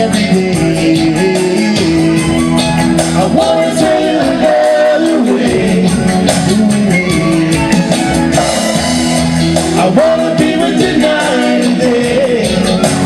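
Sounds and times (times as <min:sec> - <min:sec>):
person singing: 0:00.0 - 0:08.6, 0:09.7 - 0:13.0
live band music: 0:00.0 - 0:13.0.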